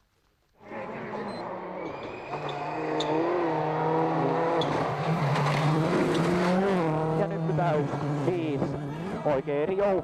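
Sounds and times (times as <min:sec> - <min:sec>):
rally car engine: 0:00.6 - 0:10.0.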